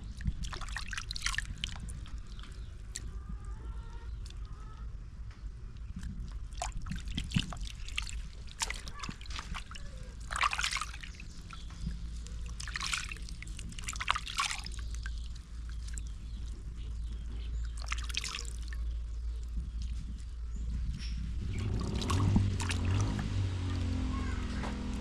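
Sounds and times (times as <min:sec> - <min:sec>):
water pouring and splashing: 0:00.0 - 0:03.2, 0:05.9 - 0:24.1
low steady hum: 0:00.0 - 0:25.0
water dribbling: 0:00.0 - 0:25.0.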